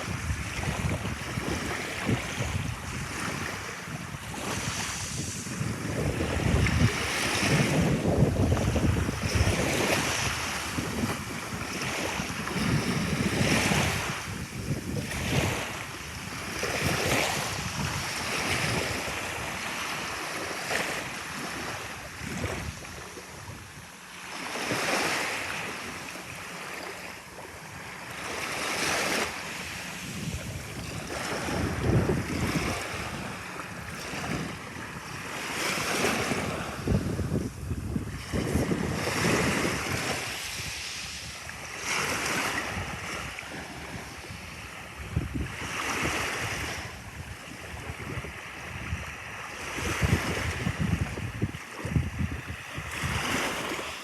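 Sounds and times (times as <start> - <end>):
wind buffeting microphone: 0.0 - 24.0, 27.7 - 54.0
sea waves washing: 0.0 - 54.0.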